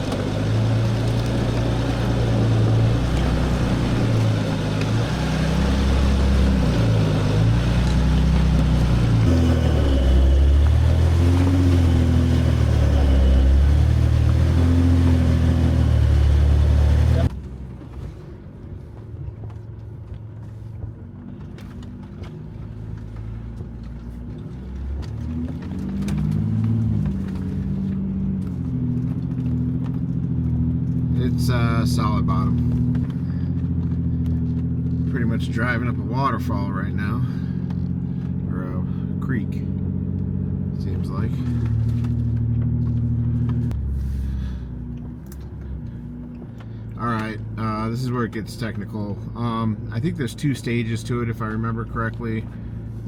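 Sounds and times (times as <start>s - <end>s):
diesel engine drone: 0.0s - 53.0s
tyre and trail noise: 0.0s - 53.0s.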